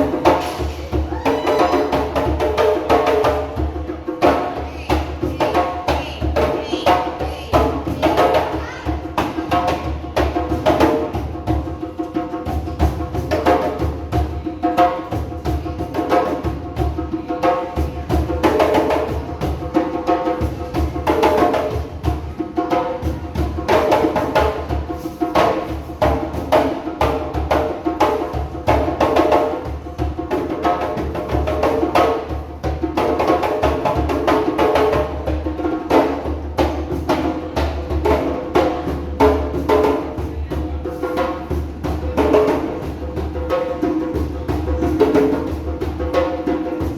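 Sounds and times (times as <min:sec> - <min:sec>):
hand drums playing: 0:00.0 - 0:46.9.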